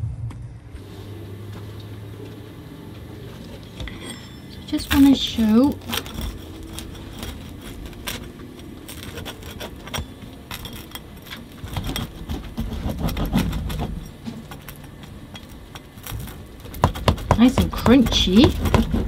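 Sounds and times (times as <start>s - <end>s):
low background rumble: 0.0s - 19.0s
pizza wheel cutting crust: 0.8s - 19.0s.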